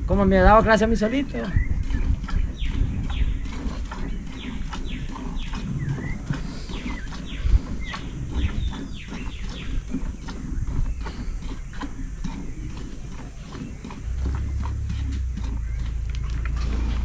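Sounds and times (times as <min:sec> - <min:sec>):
birds chirping: 0:00.0 - 0:17.0
low rumble: 0:01.5 - 0:17.0.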